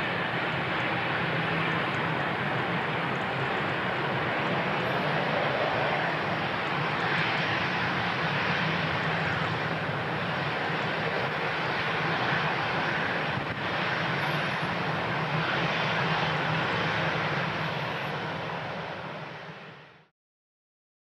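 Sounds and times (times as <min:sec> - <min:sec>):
jet engines roaring: 0:00.0 - 0:20.1.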